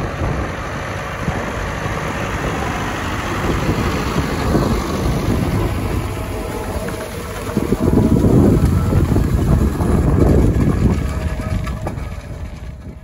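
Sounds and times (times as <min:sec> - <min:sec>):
tractor engine running: 0:00.0 - 0:13.0
wind buffeting microphone: 0:00.0 - 0:13.0.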